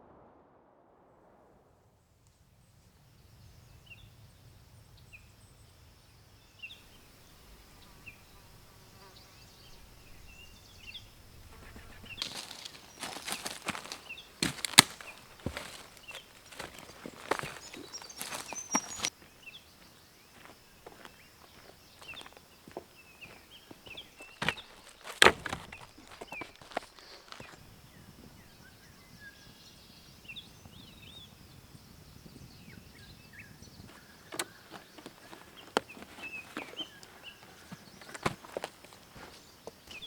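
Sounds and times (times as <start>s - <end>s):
small birds chirping: 4.9s - 40.0s.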